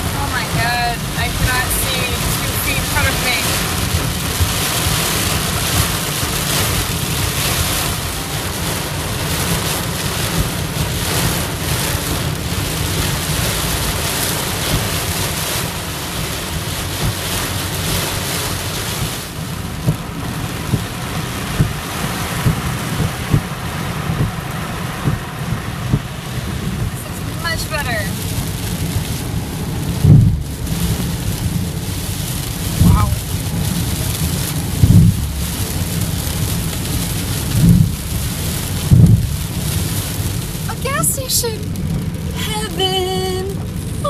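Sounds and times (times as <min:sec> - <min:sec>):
heavy rain on car roof: 0:00.0 - 0:44.0
tyres rumbling on wet road: 0:00.0 - 0:44.0.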